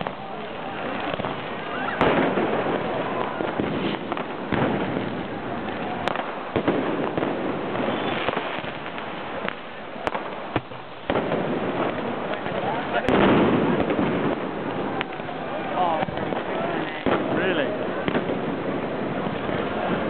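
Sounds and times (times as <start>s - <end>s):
crowd voices: 0.0s - 20.0s
firecrackers banging: 0.0s - 20.0s.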